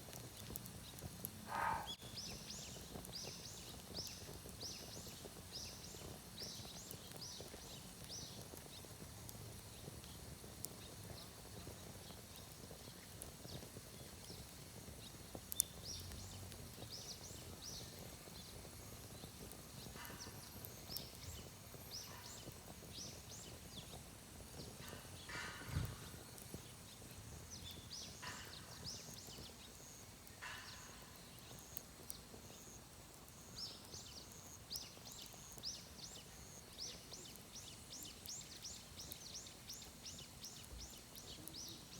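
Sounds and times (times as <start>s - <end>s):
wood fire popping: 0.0s - 41.9s
small bird chirping: 0.1s - 41.9s.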